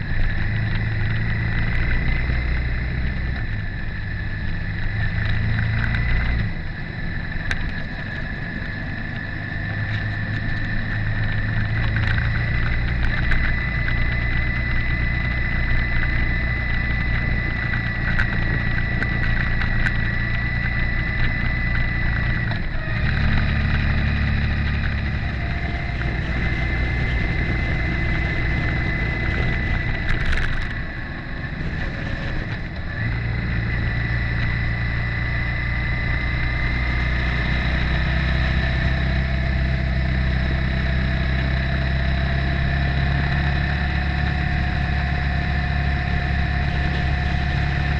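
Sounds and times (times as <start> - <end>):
high whine: 0.0 - 47.9
motorcycle engine running: 0.0 - 47.9.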